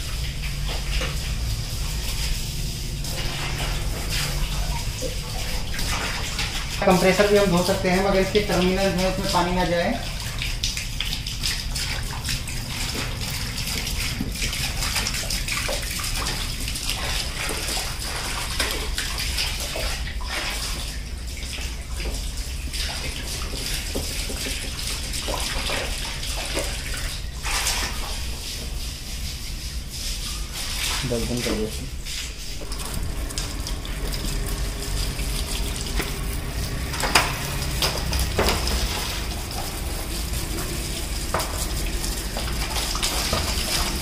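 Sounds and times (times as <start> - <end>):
hose water spraying on metal: 0.0 - 44.0.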